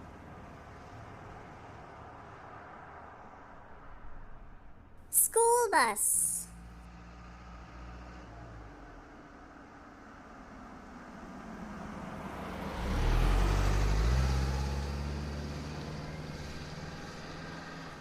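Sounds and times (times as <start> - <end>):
bus engine: 0.0 - 4.6, 5.4 - 18.0.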